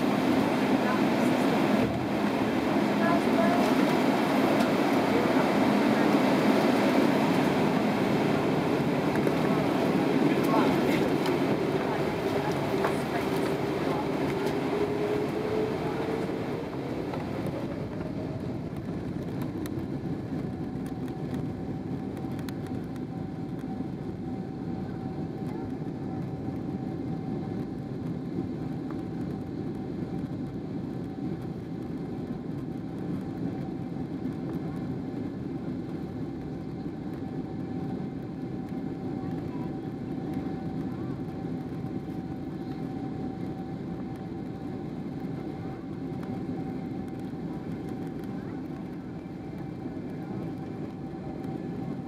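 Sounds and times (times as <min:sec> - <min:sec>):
engine whine: 0:00.0 - 0:52.0
jet engine cabin rumble: 0:00.0 - 0:52.0.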